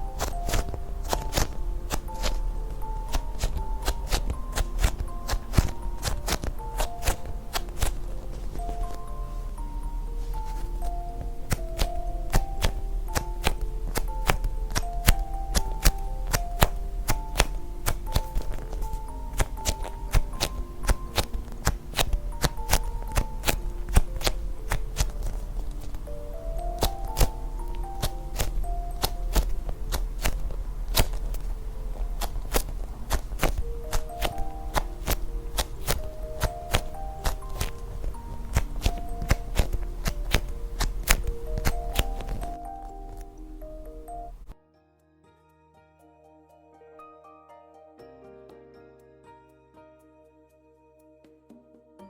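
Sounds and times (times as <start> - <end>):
crisp clicking beat: 0.0 - 44.6
light melody of single notes: 0.0 - 52.0.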